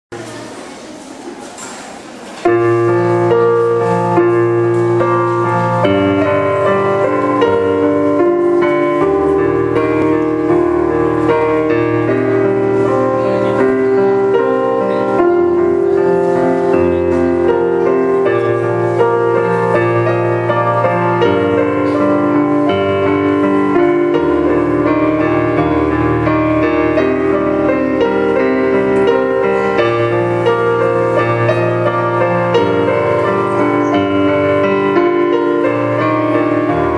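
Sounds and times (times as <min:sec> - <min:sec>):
solo piano playing: 0:02.3 - 0:36.9.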